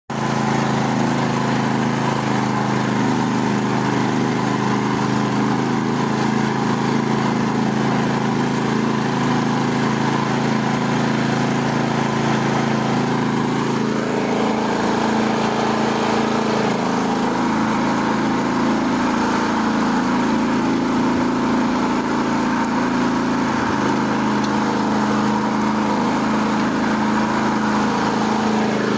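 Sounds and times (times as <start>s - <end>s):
tractor engine running under load: 0.1s - 28.9s.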